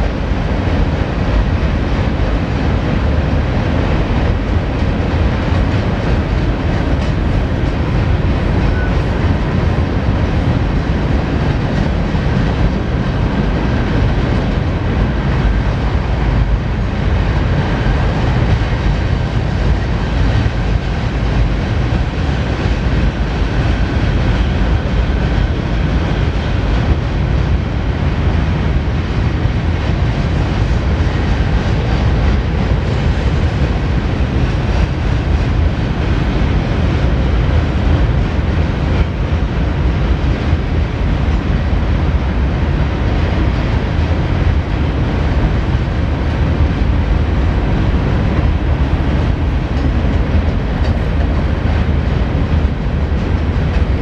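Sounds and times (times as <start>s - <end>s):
freight train rumbling over bridge: 0.0s - 54.0s.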